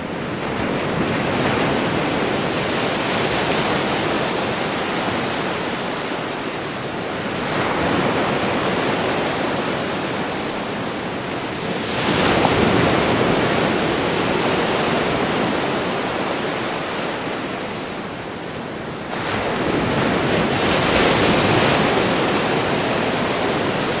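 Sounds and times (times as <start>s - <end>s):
sea waves washing onto shore: 0.0s - 24.0s.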